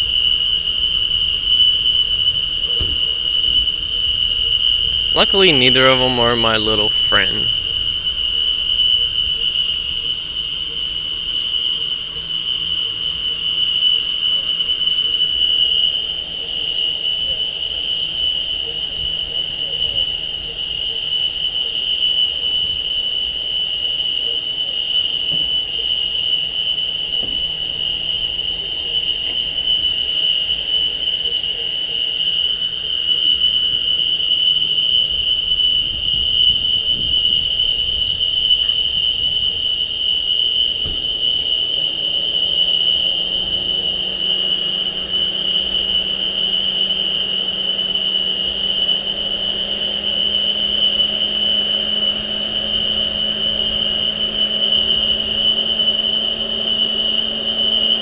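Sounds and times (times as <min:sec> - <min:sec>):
low hum: 0:00.0 - 0:23.7, 0:25.5 - 0:58.0
high-pitched trill: 0:00.0 - 0:23.8, 0:24.4 - 0:58.0.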